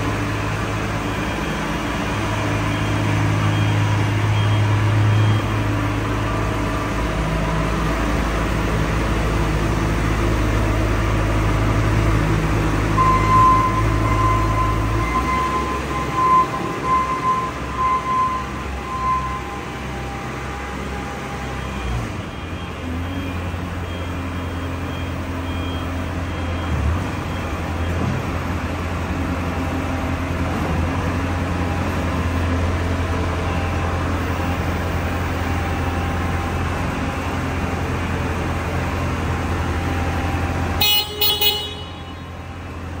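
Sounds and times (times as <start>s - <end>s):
diesel engine under load: 0.0s - 43.0s.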